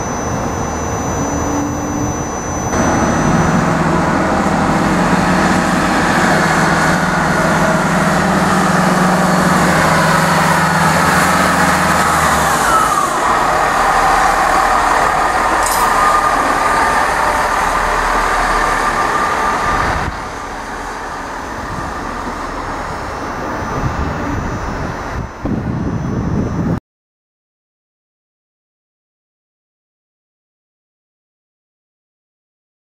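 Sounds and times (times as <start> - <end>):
diesel train engine drone: 0.0 - 26.8
falling whine: 0.0 - 26.8.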